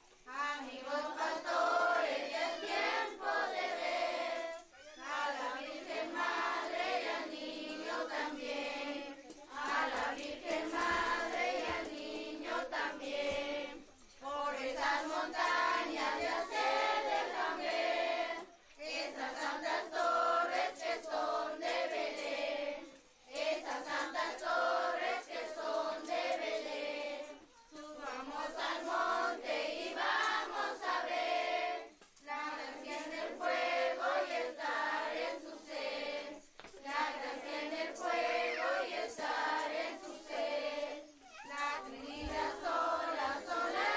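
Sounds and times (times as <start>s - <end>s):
children singing in unison: 0.3s - 43.9s.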